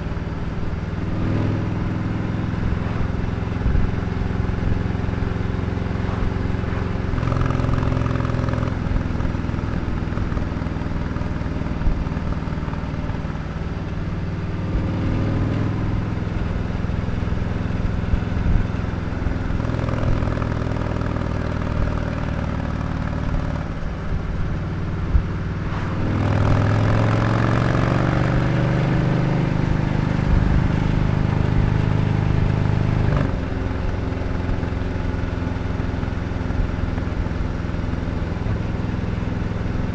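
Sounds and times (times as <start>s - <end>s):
motorcycle engine at road speed: 0.0s - 39.9s.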